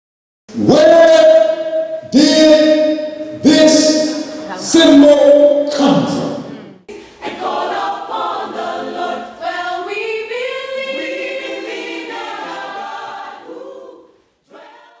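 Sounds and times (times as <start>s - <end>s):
choir singing held notes: 0.7s - 15.0s.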